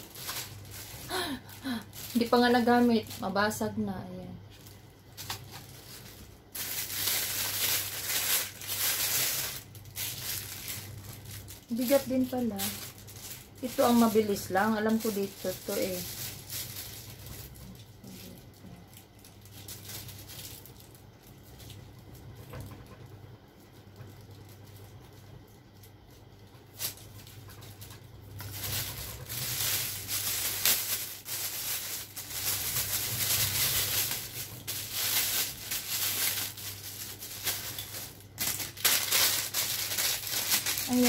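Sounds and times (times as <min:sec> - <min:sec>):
packaging handling noises: 0:00.0 - 0:03.7, 0:04.5 - 0:22.9, 0:25.8 - 0:41.0
plastic bags crinkling: 0:00.0 - 0:41.0.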